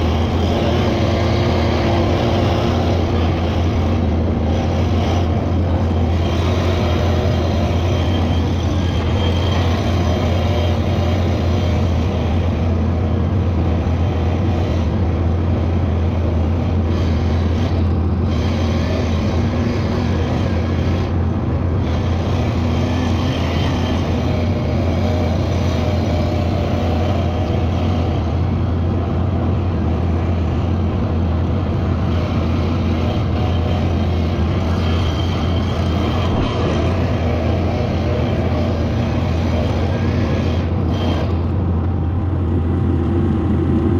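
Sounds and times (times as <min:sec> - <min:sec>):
vehicle engine droning: 0:00.0 - 0:43.9.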